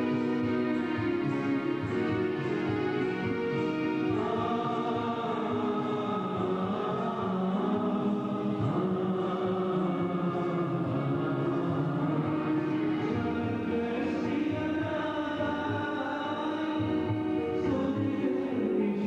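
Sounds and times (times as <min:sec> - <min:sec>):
choir singing a hymn: 0:00.0 - 0:19.0.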